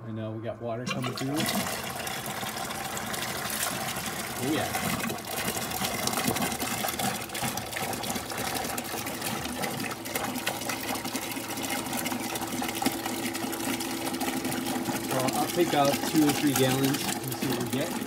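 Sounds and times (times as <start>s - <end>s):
small electric pump humming: 0.9s - 18.0s
water pouring into plastic bucket: 0.9s - 18.0s.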